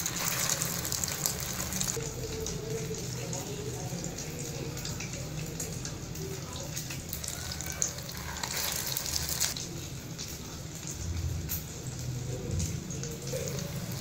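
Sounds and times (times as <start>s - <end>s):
patties sizzling in oil: 0.0s - 14.0s.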